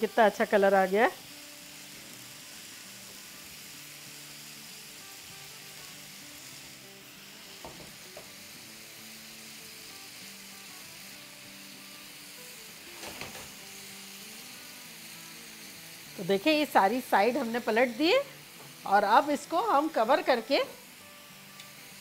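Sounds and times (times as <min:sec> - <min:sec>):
chicken sizzling in a pan: 0:00.0 - 0:22.0.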